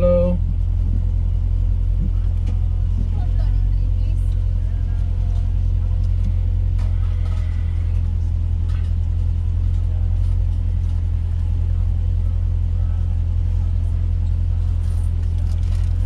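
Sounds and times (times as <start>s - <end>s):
car engine and road drone: 0.0s - 16.0s.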